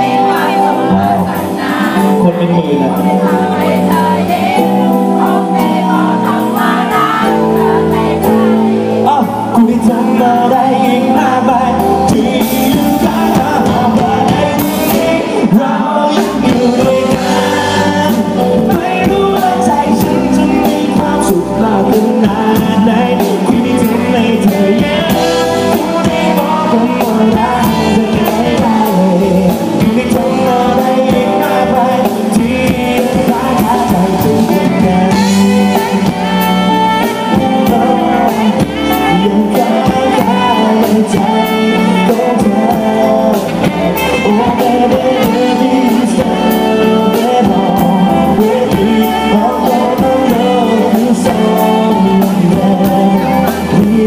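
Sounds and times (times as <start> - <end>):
drum kit: 0.0 - 54.0
electric bass: 0.0 - 54.0
man singing into microphone: 0.0 - 54.0.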